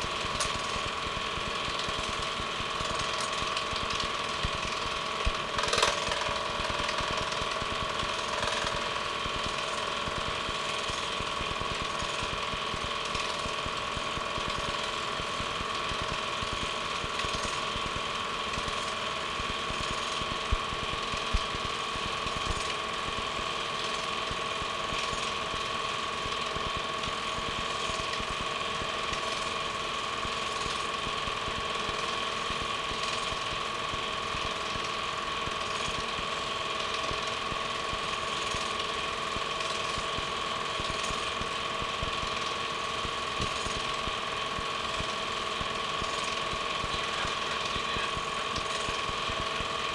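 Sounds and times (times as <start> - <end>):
film projector whirring and clattering: 0.0 - 49.9.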